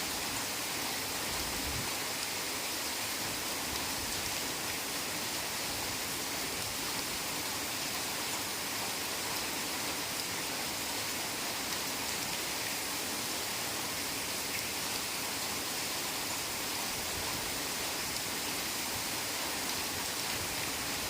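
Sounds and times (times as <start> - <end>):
heavy rain hiss: 0.0 - 21.0.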